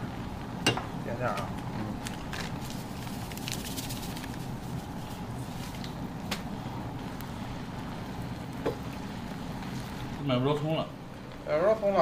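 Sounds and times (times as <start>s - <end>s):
sauce bubbling in a frying pan: 0.0s - 12.0s.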